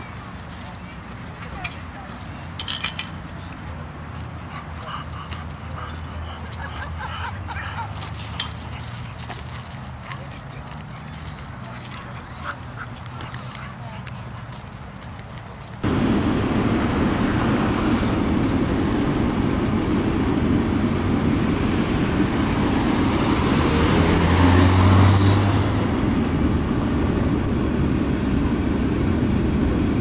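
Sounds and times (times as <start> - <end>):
road traffic noise: 0.0 - 30.0
vehicle passing close: 0.0 - 30.0.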